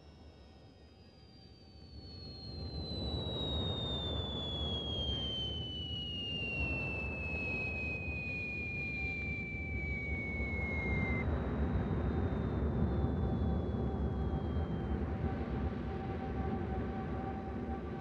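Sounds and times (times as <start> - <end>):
high tone gliding down: 1.2 - 18.0.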